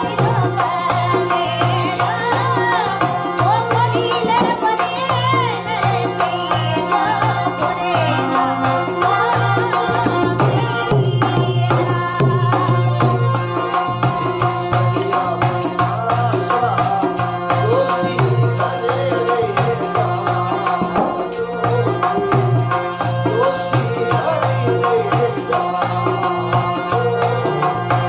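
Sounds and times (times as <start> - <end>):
quick percussion: 0.0 - 28.0.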